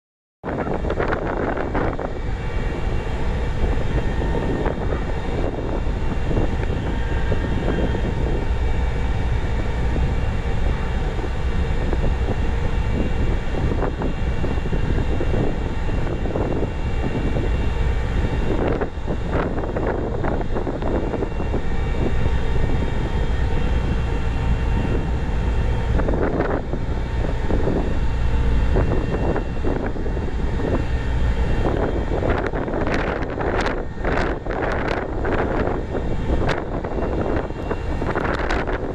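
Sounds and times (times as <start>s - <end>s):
diesel machinery running: 0.5s - 38.9s.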